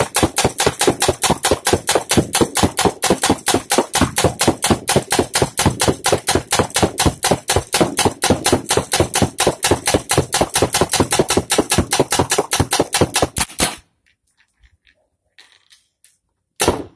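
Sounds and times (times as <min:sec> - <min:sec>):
paintball gun rapid firing: 0:00.0 - 0:13.9, 0:16.6 - 0:16.9.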